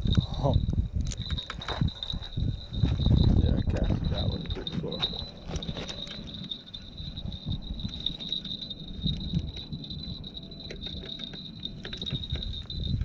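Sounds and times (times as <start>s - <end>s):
insects trilling: 0.0s - 13.0s
low rumble: 0.0s - 13.0s.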